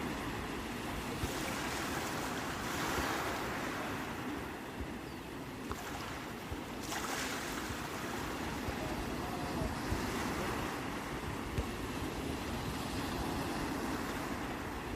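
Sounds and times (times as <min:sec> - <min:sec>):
sea waves breaking: 0:00.0 - 0:14.9.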